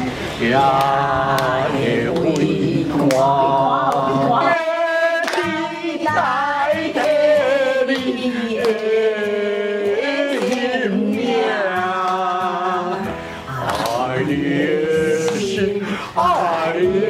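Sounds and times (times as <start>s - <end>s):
musical accompaniment: 0.0s - 17.0s
person singing slow love song: 0.0s - 17.0s.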